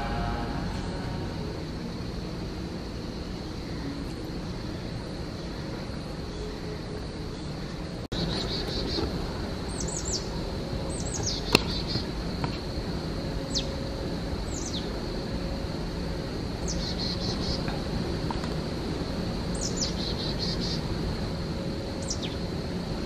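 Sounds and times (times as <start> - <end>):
high insect hum: 0.0 - 23.0.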